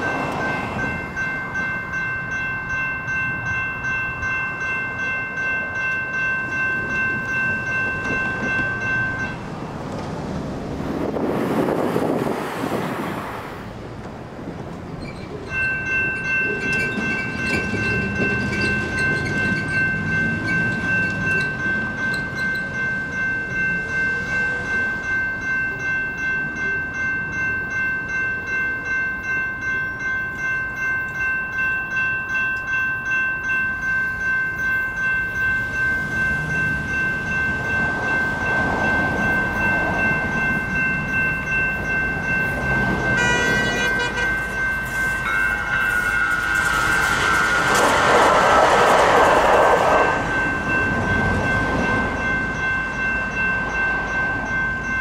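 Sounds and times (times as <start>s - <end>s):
electronic crossing bell ringing: 0.0s - 9.5s, 15.4s - 48.0s, 49.9s - 55.0s.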